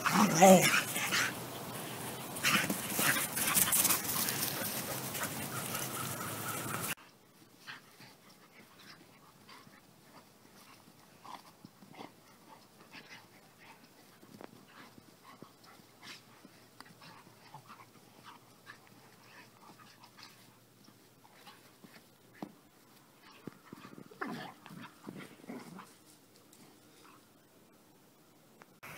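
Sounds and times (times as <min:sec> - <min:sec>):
dogs play-wrestling noises: 0:00.0 - 0:07.0, 0:07.6 - 0:27.2.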